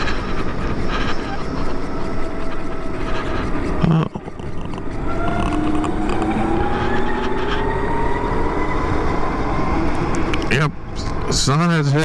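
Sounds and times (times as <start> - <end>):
electric motorcycle motor whine: 0.0 - 10.9
wind and road noise: 0.0 - 12.0.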